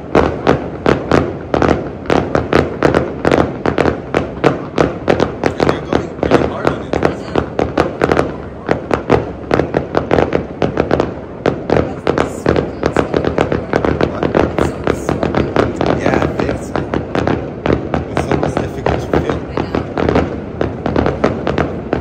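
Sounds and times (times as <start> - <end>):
fireworks banging and crackling: 0.0 - 22.0.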